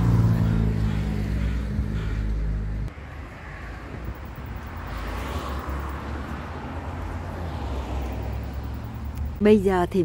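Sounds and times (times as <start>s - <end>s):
faint outdoor background noise: 0.0s - 10.0s.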